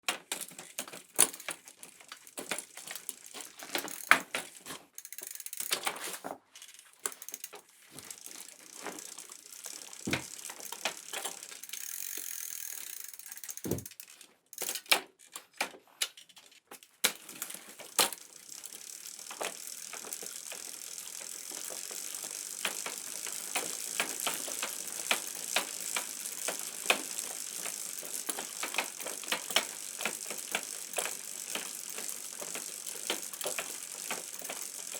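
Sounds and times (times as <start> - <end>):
bicycle chain clicks and rattles: 0.1 - 34.9
freewheel ratchet ticking: 1.2 - 4.4, 5.0 - 5.8, 7.0 - 14.0, 17.8 - 34.9
rolling hiss of bicycle wheels: 1.2 - 6.3, 7.0 - 13.8, 17.3 - 34.9.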